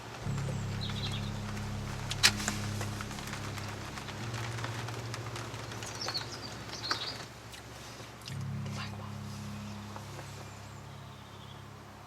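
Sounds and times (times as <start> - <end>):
light rain pattering: 0.0 - 11.2
steady low hum: 0.0 - 12.0.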